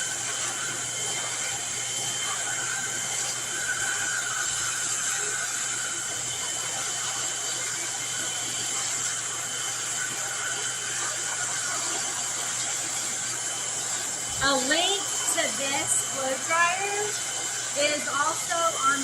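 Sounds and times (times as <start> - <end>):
blow dryer rushing air whine: 0.0 - 19.0.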